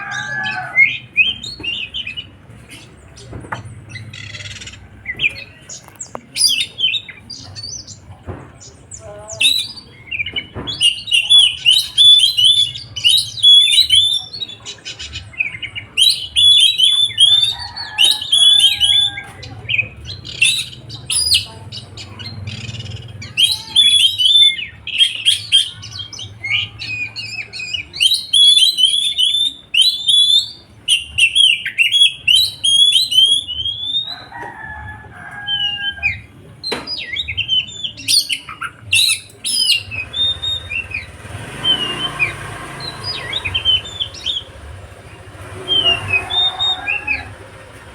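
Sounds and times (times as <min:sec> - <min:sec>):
songbird chirping and trilling: 0:00.0 - 0:47.9.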